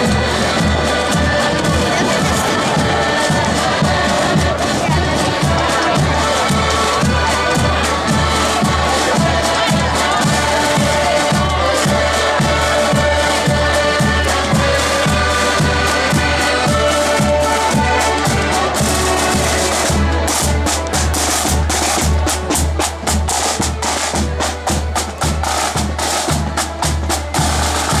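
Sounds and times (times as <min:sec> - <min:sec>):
marching accordion band: 0:00.0 - 0:28.0
rapid snare drum strokes: 0:00.0 - 0:28.0.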